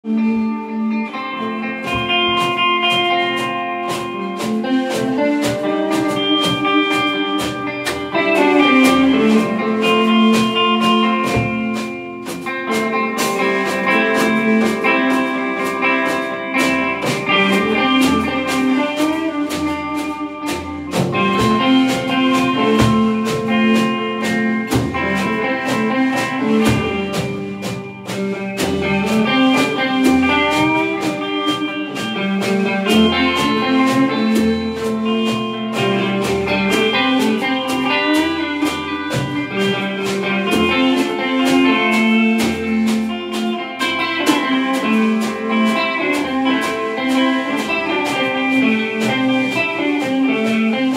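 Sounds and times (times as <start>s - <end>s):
electric guitars: 0.0s - 50.9s
drum beat: 1.2s - 50.9s.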